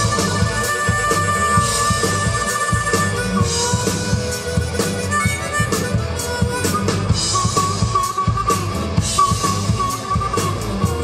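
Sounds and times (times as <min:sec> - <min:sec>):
harmonica lead: 0:00.0 - 0:11.0
live rock band playing: 0:00.0 - 0:11.0.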